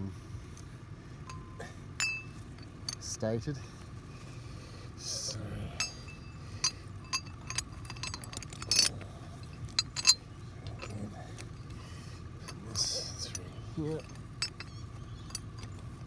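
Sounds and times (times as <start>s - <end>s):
metal shackle clinking: 1.2s - 16.0s.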